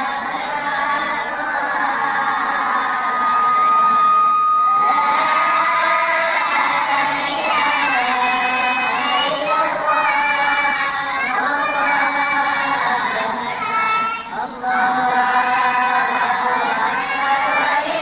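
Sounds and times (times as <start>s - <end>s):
children shouting and chanting: 0.0s - 18.0s.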